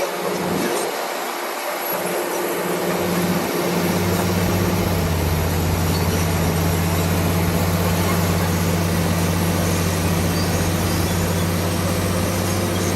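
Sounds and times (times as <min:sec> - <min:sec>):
bulldozer diesel engine drone: 0:00.0 - 0:12.9
steady rushing noise: 0:00.0 - 0:12.9.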